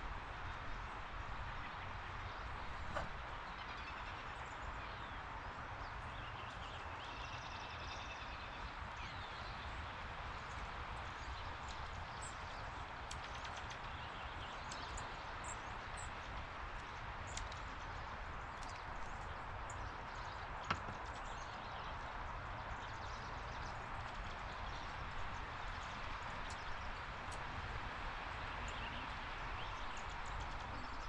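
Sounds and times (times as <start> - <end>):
songbird chirps: 0.0 - 31.0.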